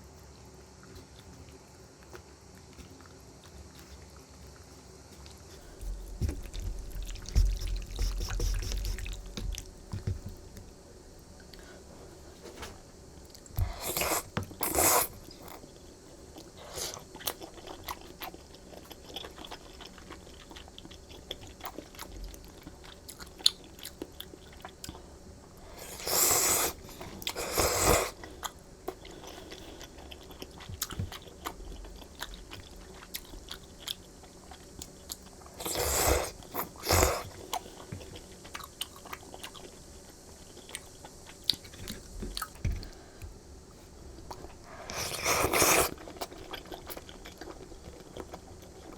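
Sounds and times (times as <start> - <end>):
close chewing noodles: 0.8 - 9.7, 13.3 - 42.6, 44.3 - 48.9.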